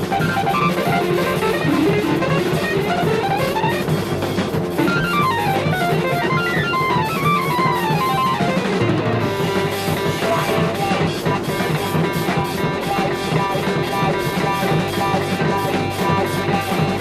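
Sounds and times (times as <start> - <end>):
drum kit beat: 0.0 - 17.0
electric bass: 0.0 - 17.0
electric guitar: 0.0 - 17.0
keyboards: 0.0 - 17.0.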